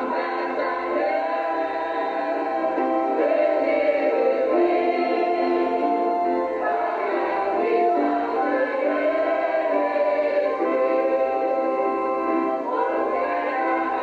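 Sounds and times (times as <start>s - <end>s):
voices singing a hymn: 0.0s - 14.0s.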